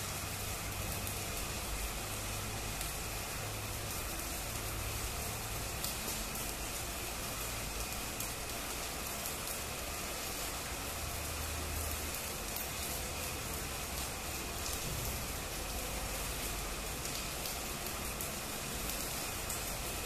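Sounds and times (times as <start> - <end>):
arc welding crackling: 0.0 - 20.0.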